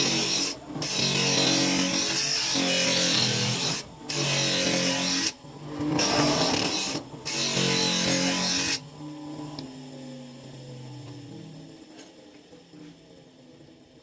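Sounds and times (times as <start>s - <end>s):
grinder motor humming: 0.0s - 14.0s.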